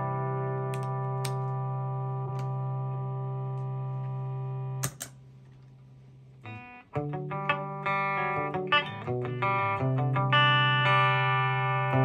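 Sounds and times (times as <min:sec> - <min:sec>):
electric guitar chord ringing: 0:00.0 - 0:05.0, 0:06.5 - 0:12.0
electric guitar picked notes: 0:00.0 - 0:05.0, 0:06.4 - 0:12.0.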